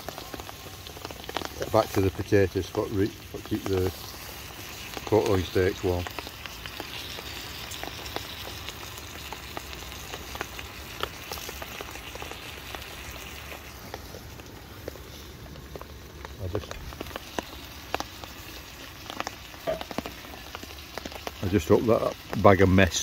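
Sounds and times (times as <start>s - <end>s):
fat crackling and spitting: 0.0s - 23.0s
meat sizzling in a frying pan: 0.0s - 23.0s.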